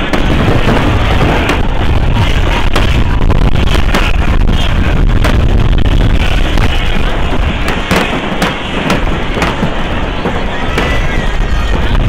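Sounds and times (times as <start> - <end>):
fireworks bangs: 0.0 - 12.0
heavy rumble: 0.0 - 12.0.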